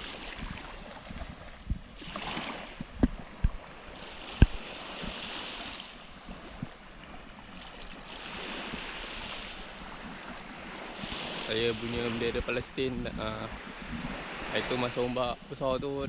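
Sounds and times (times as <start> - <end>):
water sloshing around boat: 0.0 - 15.2
wind on microphone: 0.0 - 16.0.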